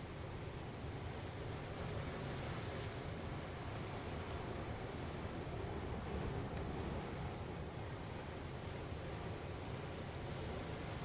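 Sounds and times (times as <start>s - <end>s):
ocean surf on rocks: 0.0s - 11.0s.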